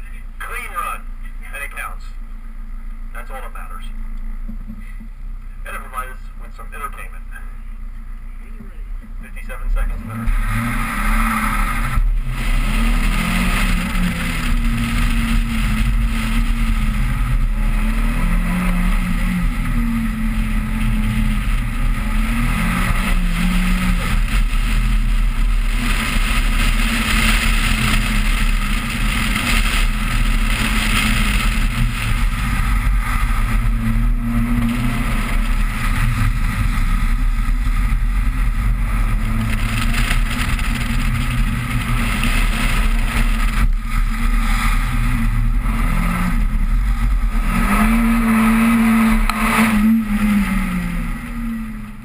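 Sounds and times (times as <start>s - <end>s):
car engine revving: 0.0s - 52.0s
wind rumble on microphone: 9.8s - 52.0s.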